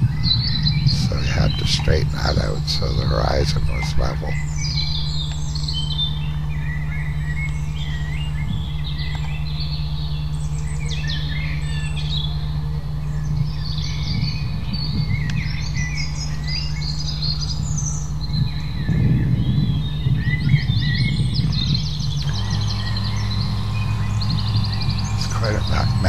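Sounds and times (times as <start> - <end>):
small songbirds chirping: 0.0 - 26.0
steady low drone: 0.0 - 26.0.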